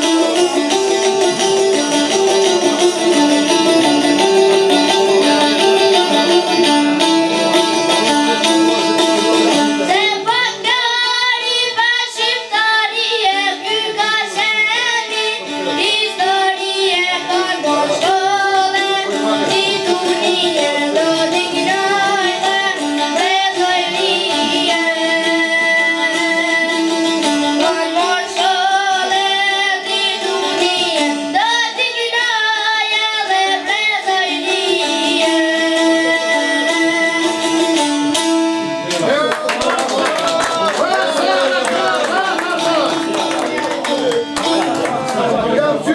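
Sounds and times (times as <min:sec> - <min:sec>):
boy singing folk song: 0:00.0 - 0:38.6
plucked lutes melody: 0:00.0 - 0:45.9.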